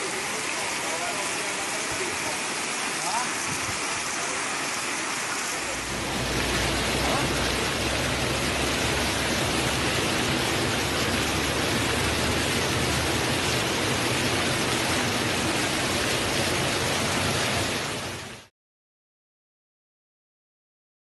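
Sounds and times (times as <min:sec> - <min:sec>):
torrential rain: 0:00.0 - 0:18.5
water streaming off rooftops: 0:00.0 - 0:18.5.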